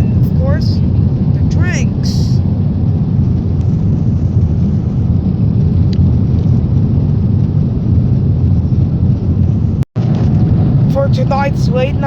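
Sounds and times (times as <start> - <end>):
airplane cabin engine rush: 0.0 - 12.0.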